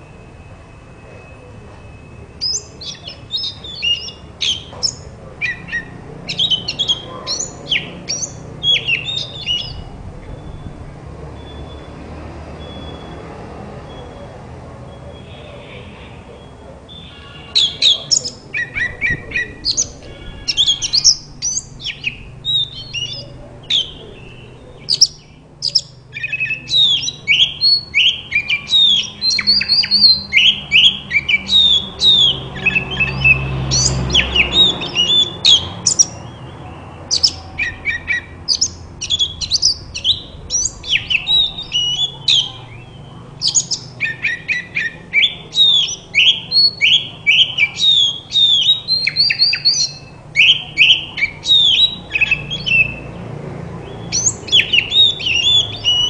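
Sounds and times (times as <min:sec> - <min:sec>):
bird singing whistled notes: 0:00.0 - 0:10.8, 0:11.4 - 0:12.0, 0:12.6 - 0:13.2, 0:16.4 - 0:53.1, 0:53.8 - 0:56.0.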